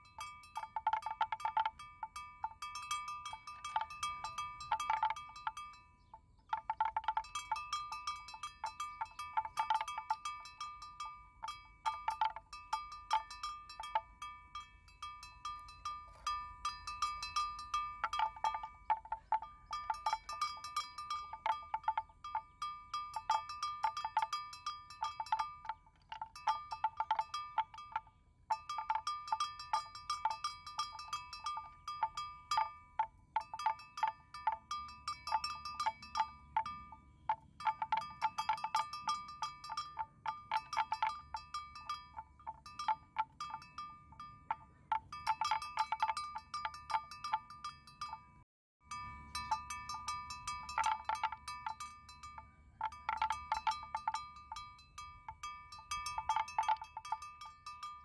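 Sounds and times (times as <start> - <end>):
metal bell clanking: 0.0 - 58.0.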